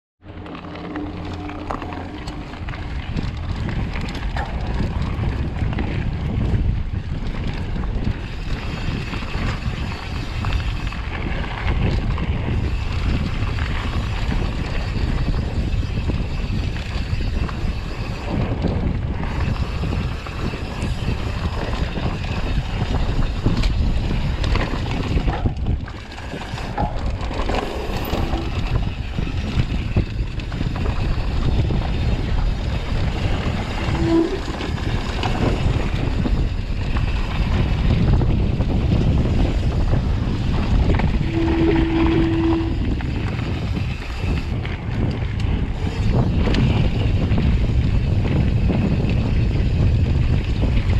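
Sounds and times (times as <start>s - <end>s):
low rumble of bike ride: 0.2s - 50.9s
wind buffeting microphone: 0.2s - 50.9s.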